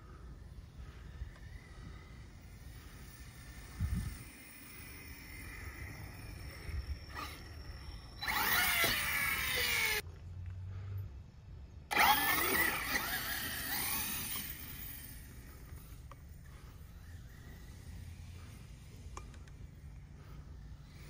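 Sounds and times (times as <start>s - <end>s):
toy truck motor whining: 0.4s - 10.0s, 11.9s - 21.0s.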